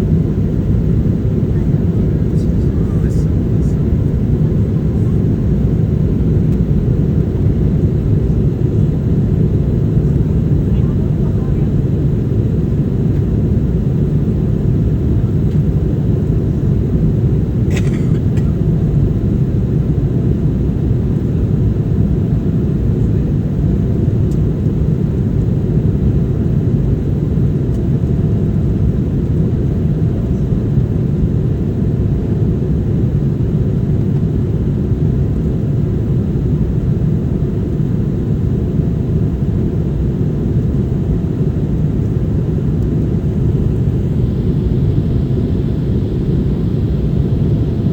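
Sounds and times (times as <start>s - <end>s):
airliner cabin roar: 0.0s - 47.9s.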